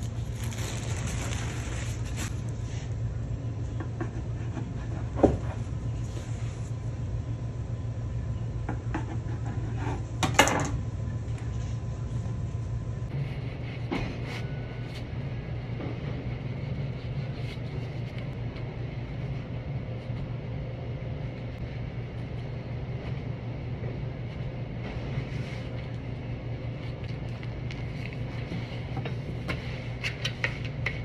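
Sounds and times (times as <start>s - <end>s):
kitchen machinery hum: 0.0s - 31.0s.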